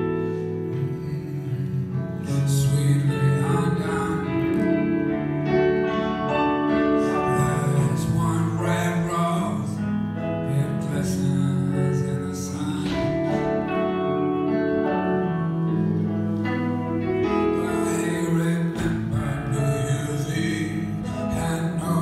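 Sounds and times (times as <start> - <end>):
live band playing slow instrumental: 2.8 - 22.0.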